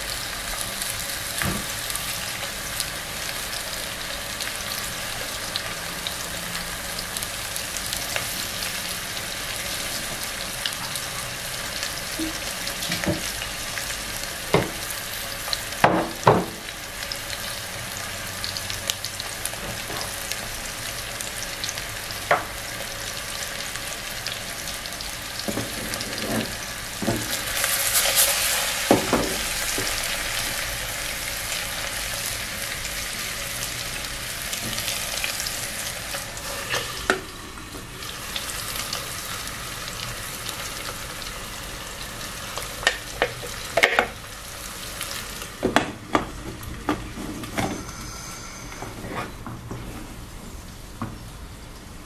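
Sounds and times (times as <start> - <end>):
chicken frying in hot oil: 0.0 - 48.7.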